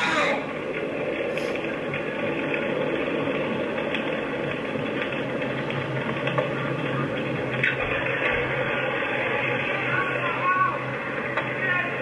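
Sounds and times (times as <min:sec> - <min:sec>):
fire rushing: 0:00.0 - 0:12.0
faint fire pops: 0:00.6 - 0:12.0.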